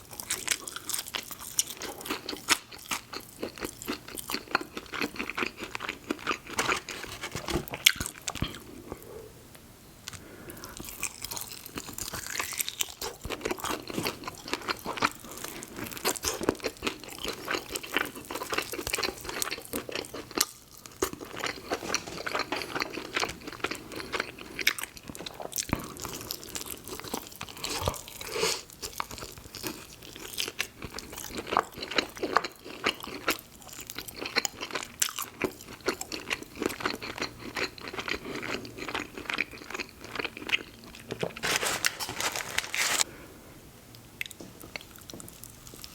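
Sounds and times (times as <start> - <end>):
chewing and crunching food: 0.0 - 9.0, 10.1 - 43.1, 44.2 - 45.9.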